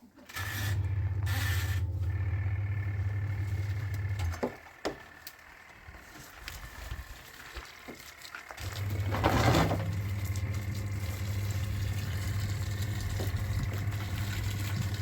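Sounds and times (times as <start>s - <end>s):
washing machine motor humming: 0.3s - 15.0s.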